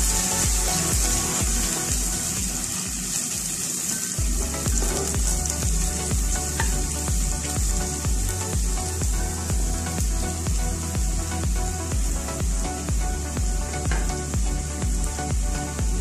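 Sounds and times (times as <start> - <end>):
aromatics sizzling in hot oil: 0.0 - 16.0
background music with steady beat: 0.0 - 16.0.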